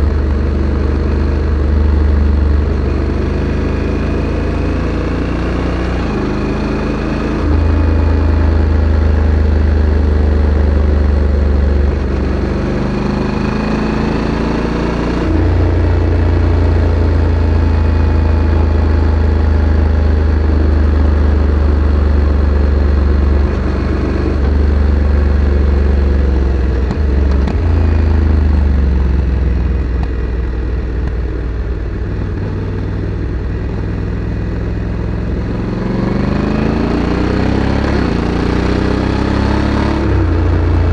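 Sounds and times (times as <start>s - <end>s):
motorcycle engine revving while riding: 0.0s - 40.9s.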